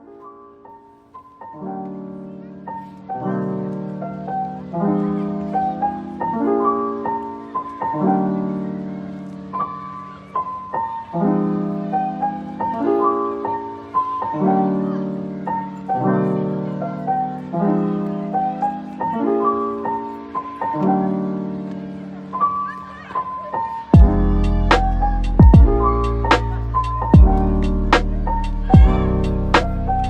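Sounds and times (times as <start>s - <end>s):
soft piano music: 0.0s - 30.0s.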